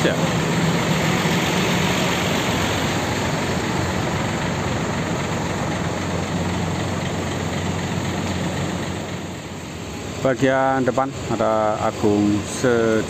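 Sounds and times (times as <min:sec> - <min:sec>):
diesel engines idling: 0:00.0 - 0:13.0.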